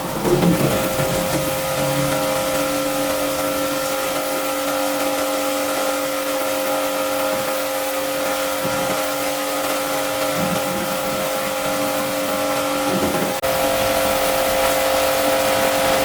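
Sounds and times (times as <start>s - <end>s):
cleaning machine motor humming: 0.0s - 16.0s.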